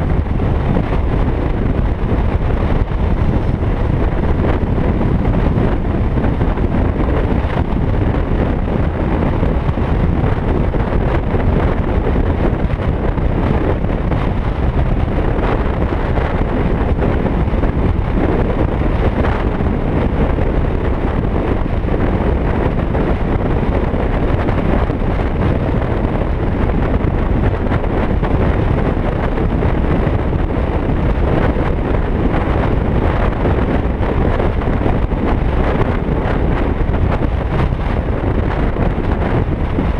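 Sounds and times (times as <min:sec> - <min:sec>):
wind rush over microphone: 0:00.0 - 0:39.9.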